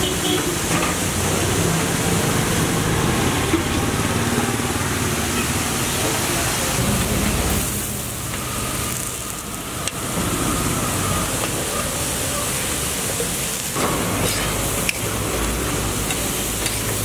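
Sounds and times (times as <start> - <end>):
traffic and engine noise: 0.0 - 17.0
background voices: 0.7 - 17.0.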